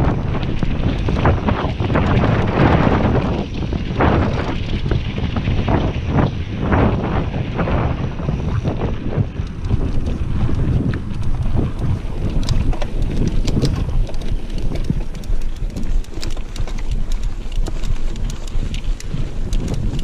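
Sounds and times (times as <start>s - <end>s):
bike clicks and rattles: 0.0s - 20.0s
tyres rumbling on trail: 0.0s - 20.0s
wind buffeting microphone: 0.0s - 20.0s.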